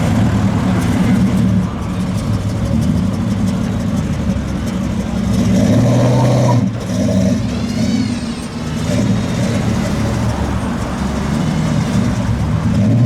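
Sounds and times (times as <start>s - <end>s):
car engines at low revs: 0.0s - 13.0s
car passing close: 0.0s - 13.0s.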